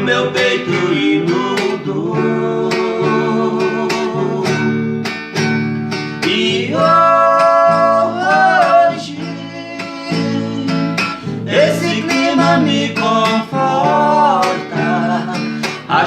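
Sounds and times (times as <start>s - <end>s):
person singing a ballad: 0.0s - 5.0s, 6.1s - 16.0s
acoustic guitar strumming: 0.0s - 16.0s.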